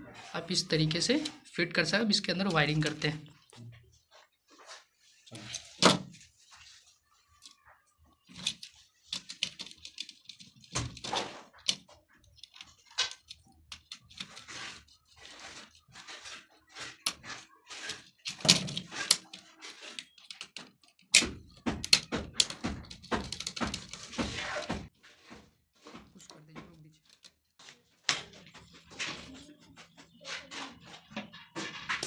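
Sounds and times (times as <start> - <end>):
wires rustling and clicking: 0.2 - 32.0.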